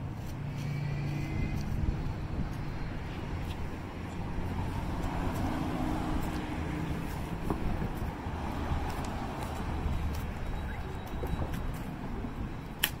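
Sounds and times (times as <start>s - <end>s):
faint engine hum: 0.0s - 12.8s
low rumble of cars: 0.0s - 13.0s.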